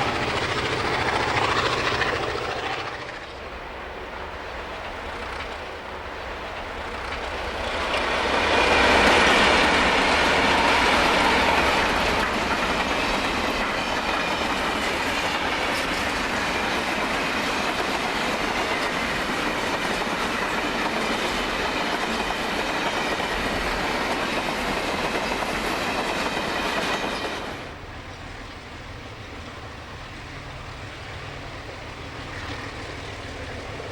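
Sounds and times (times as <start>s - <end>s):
diesel locomotive passing: 0.0s - 33.9s.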